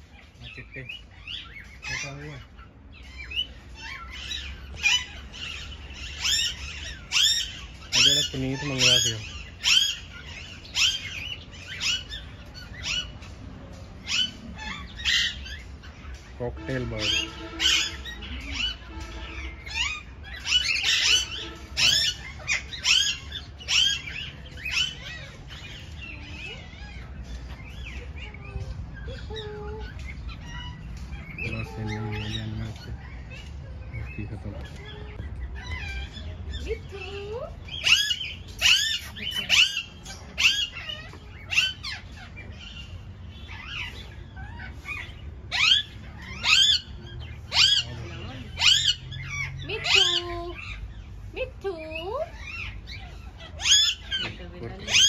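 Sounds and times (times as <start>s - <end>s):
parakeets screeching: 0.0s - 55.0s
small birds chirping: 0.0s - 55.0s.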